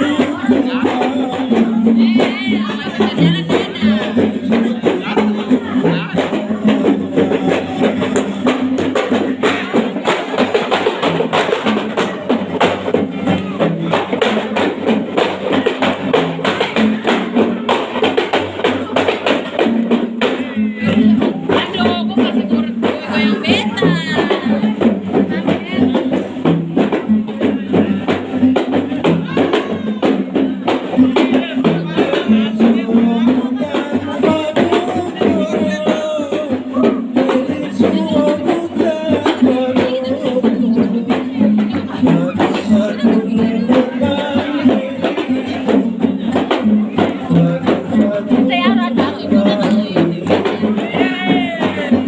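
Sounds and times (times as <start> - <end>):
hand drum beat: 0.0 - 52.0.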